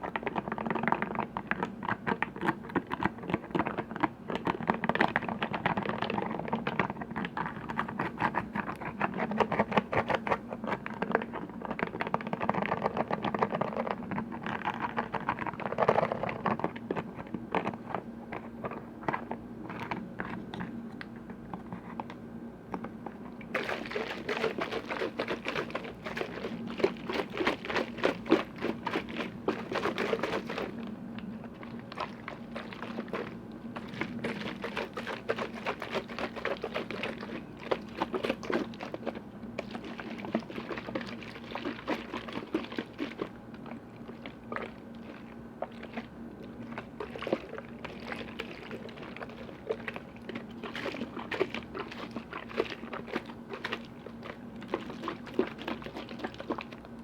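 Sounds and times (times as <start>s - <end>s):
faint steady hum: 0.0s - 57.0s
liquid sounds: 0.0s - 57.0s.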